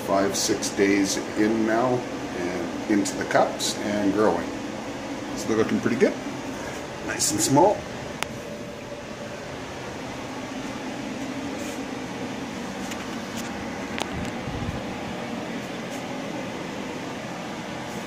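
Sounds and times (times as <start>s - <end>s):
fans rushing hum: 0.0s - 18.0s.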